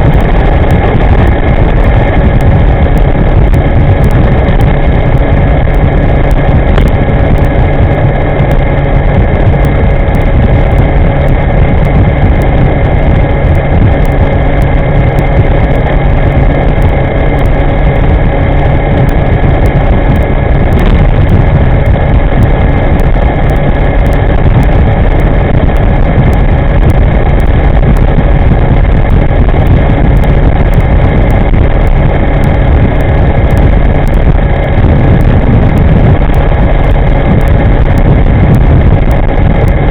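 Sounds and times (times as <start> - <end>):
faint steady whining tones: 0.0 - 39.9
wind rumbling on microphone: 0.0 - 39.9.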